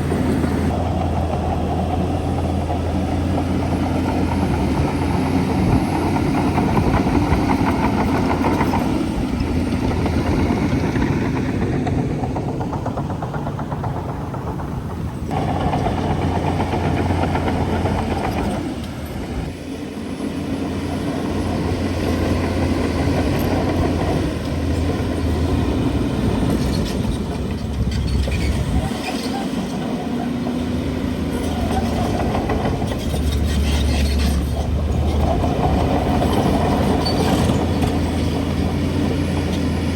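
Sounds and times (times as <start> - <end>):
bulldozer diesel engine: 0.0 - 39.9
metallic clatter of tracks: 0.1 - 20.1, 20.7 - 39.9.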